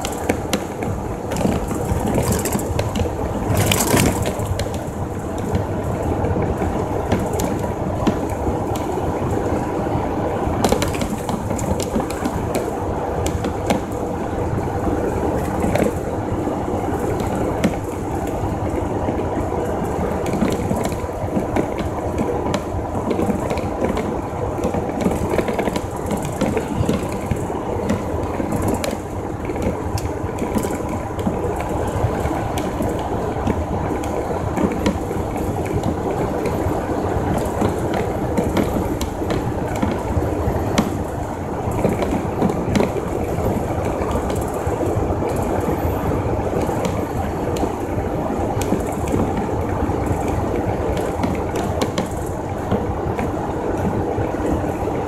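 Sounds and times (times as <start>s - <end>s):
truck engine and road drone: 0.0s - 55.0s.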